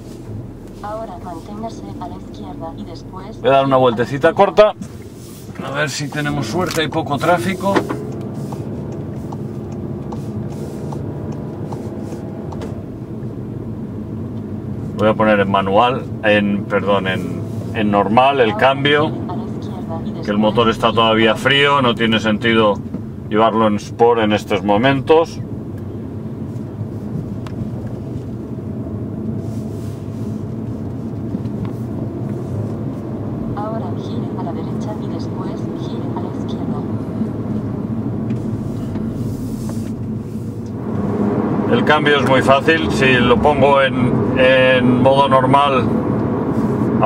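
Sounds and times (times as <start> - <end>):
car engine running at low speed: 0.0 - 47.0.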